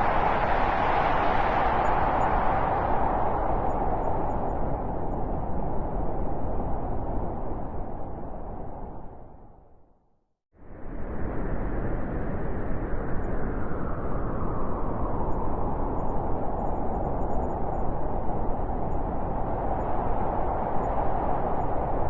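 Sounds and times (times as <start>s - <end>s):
blizzard wind howling: 0.0s - 9.8s, 10.6s - 22.0s.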